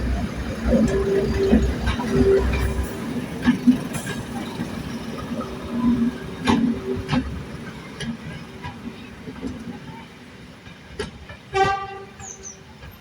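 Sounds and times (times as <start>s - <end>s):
train rumbling: 0.0s - 13.0s
train wheels clicking and knocking: 0.0s - 13.0s.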